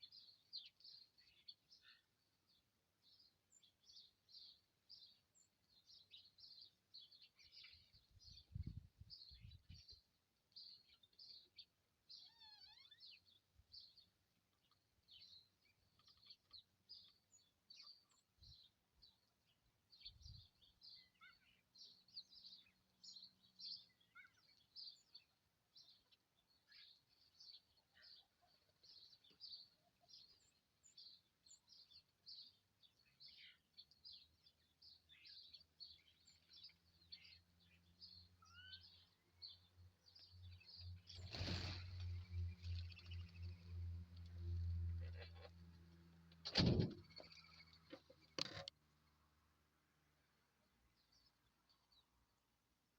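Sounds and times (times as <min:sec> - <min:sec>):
small birds chirping: 0:00.0 - 0:48.8, 0:50.6 - 0:52.6.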